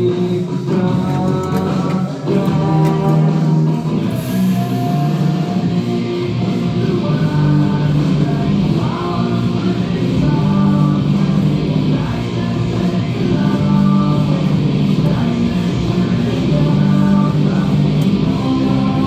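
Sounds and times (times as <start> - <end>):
rock music on radio: 0.0 - 19.0.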